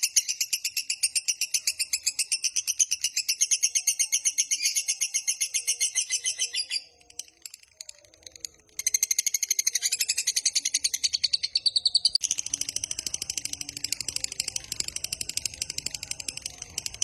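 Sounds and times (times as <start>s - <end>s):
lovebird chattering song: 0.0s - 17.0s.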